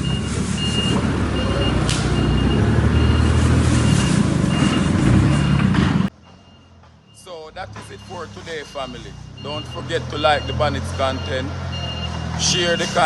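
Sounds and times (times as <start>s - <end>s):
reversing alarm beeping: 0.0s - 5.6s, 6.2s - 13.0s
diesel engine running: 0.0s - 13.0s.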